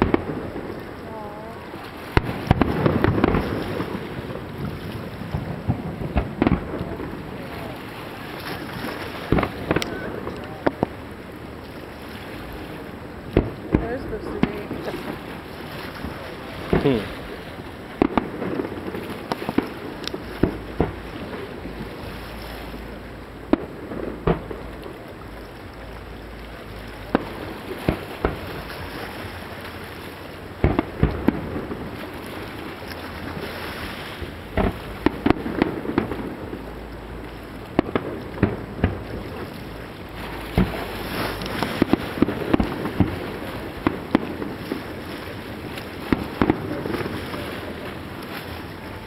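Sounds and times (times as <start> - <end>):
fireworks bursting: 0.0 - 11.1, 12.7 - 25.1, 27.0 - 36.9, 37.6 - 49.0.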